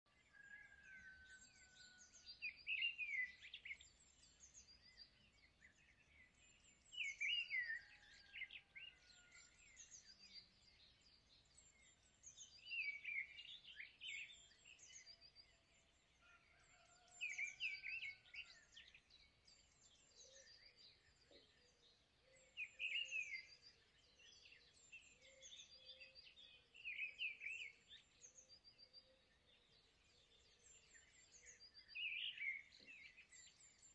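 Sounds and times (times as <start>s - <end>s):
faint whistled bird notes: 0.1s - 33.9s.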